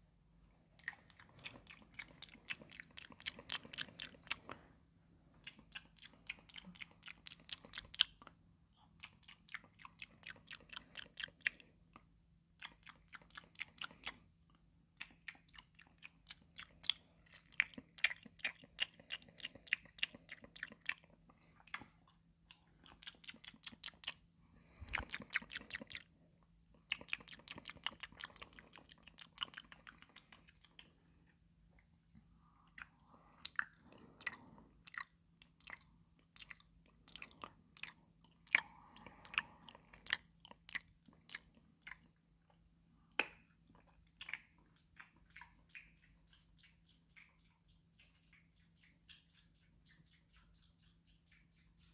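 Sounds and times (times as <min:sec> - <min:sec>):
faint steady hum: 0:00.0 - 0:51.9
crunching and chewing cucumber: 0:00.7 - 0:04.7, 0:05.3 - 0:31.3, 0:32.4 - 0:51.9.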